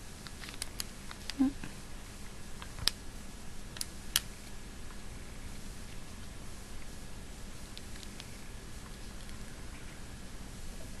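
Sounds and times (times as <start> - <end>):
steady faint hiss: 0.0 - 11.0.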